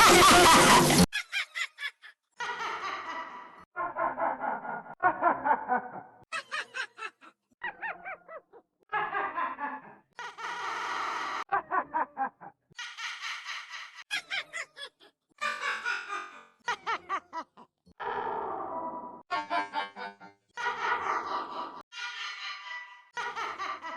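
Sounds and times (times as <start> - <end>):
witch cackling laugh with voice effects: 0.0 - 10.7, 11.4 - 17.9, 19.3 - 23.9.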